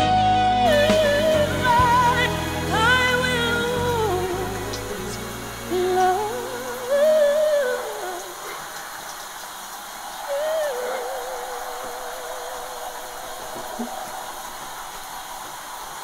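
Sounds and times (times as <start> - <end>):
steady hiss: 0.7 - 16.0.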